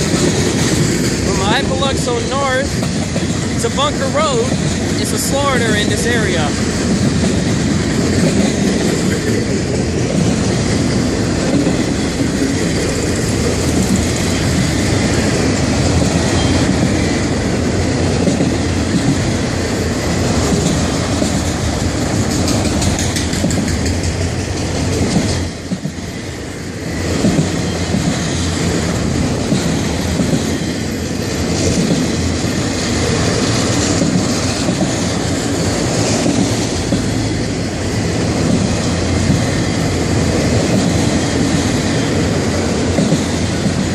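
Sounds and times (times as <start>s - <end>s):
freight train rumbling past: 0.0s - 43.9s.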